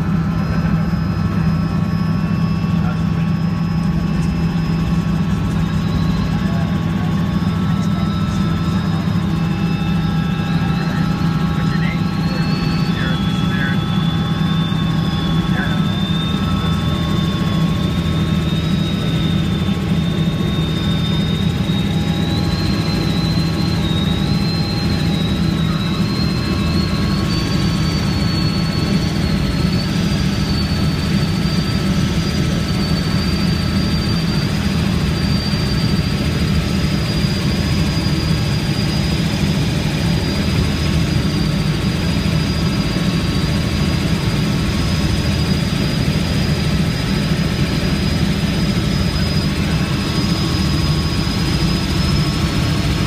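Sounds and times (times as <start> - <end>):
helicopter turbine and rotor: 0.0 - 53.0.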